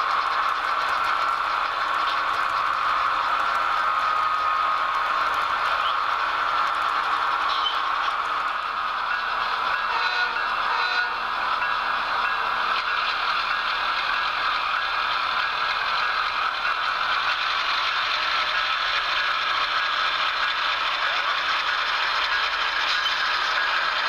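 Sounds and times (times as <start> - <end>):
model train whirring and rattling: 0.0 - 24.0.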